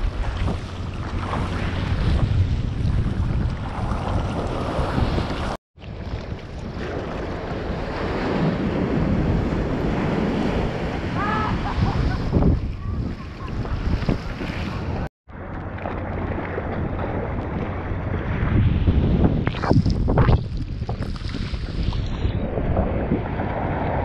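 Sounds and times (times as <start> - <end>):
sea water sloshing and splashing: 0.0 - 10.6, 11.6 - 24.0
surf rumbling: 0.0 - 24.0
wind buffeting microphone: 0.0 - 24.0.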